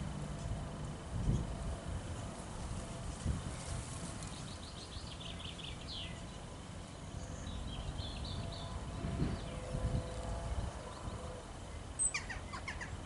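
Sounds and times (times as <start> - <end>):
steady low rumble: 0.0 - 12.0
songbirds singing: 0.0 - 13.0.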